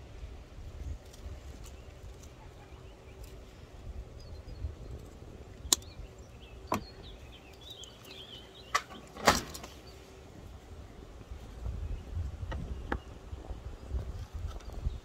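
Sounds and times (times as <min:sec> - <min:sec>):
wind rumbling on microphone: 0:00.0 - 0:08.7, 0:09.6 - 0:15.0
birds chirping: 0:00.0 - 0:15.0.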